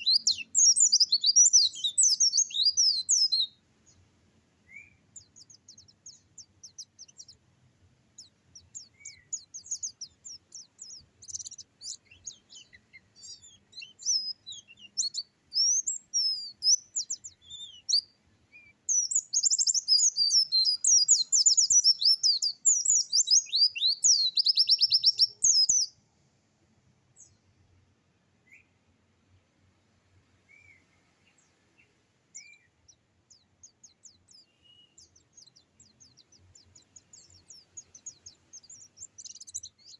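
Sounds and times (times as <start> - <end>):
songbird singing: 0.0 - 26.0, 28.4 - 28.9, 30.0 - 39.9.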